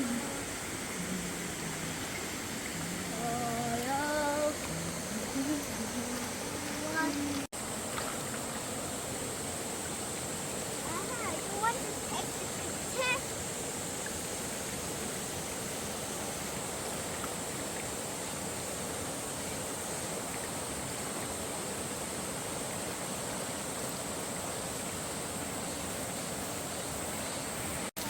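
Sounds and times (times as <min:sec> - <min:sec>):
river water flowing: 0:00.0 - 0:28.0
steady high-pitched hiss: 0:00.0 - 0:28.0.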